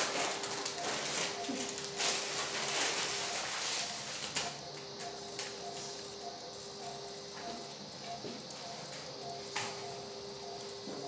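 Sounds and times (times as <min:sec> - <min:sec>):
crackling hiss of burning tissue: 0:00.0 - 0:11.0
electrosurgical activation tone: 0:00.0 - 0:11.0.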